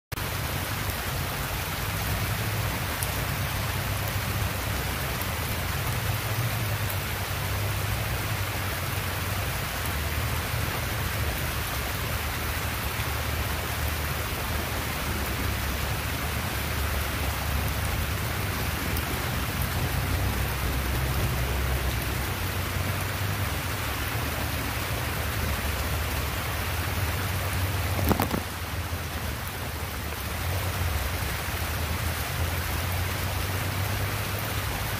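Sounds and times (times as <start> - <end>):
heavy rain splashing on pavement: 0.1 - 34.9.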